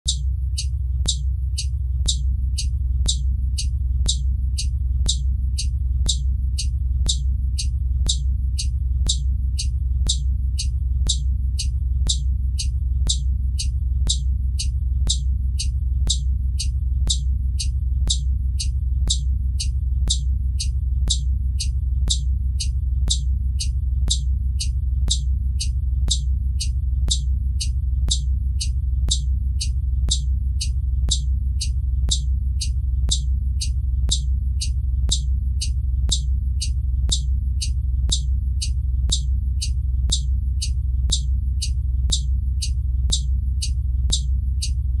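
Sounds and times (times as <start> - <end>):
turn signal ticking: 0.0 - 44.9.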